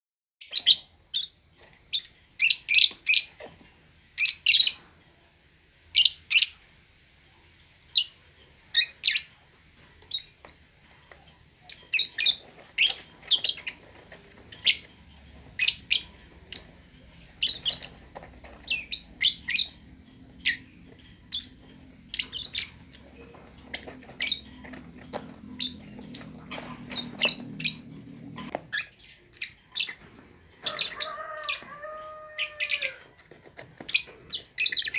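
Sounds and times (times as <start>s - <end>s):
lovebirds chirping: 0.4s - 3.5s, 4.2s - 4.8s, 5.9s - 6.7s, 7.9s - 34.9s.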